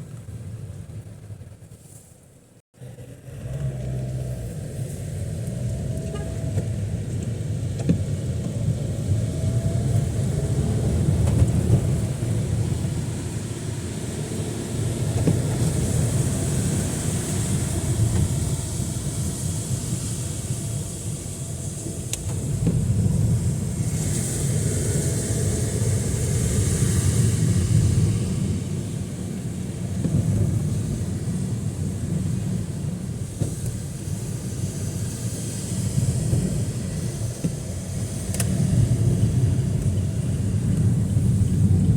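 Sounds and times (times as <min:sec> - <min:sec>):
low rumble of traffic: 0:00.0 - 0:41.9
tyres hissing on wet road: 0:02.8 - 0:41.9
heavy rain: 0:03.1 - 0:41.9.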